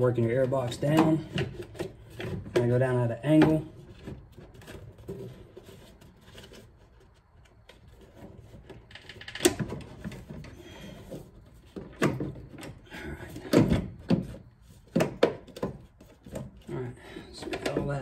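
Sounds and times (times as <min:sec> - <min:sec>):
plastic knocks and scrapes: 0:00.2 - 0:18.0.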